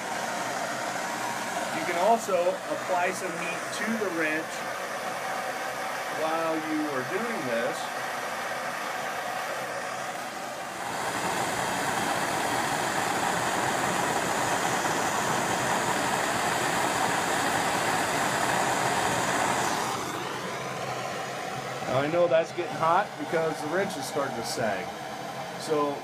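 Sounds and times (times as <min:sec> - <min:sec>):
hand torch flame hissing: 0:00.0 - 0:26.0.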